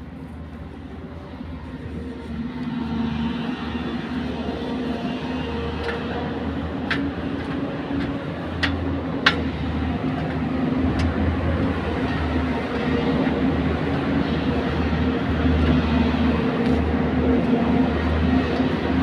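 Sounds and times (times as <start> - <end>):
low machinery hum: 0.0 - 19.0.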